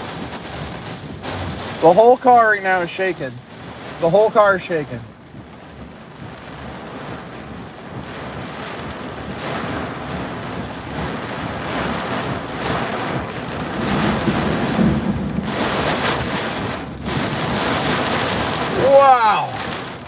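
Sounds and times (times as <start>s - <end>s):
heavy rain on a car: 0.0s - 20.0s
wind gusts buffeting a car: 0.0s - 20.0s.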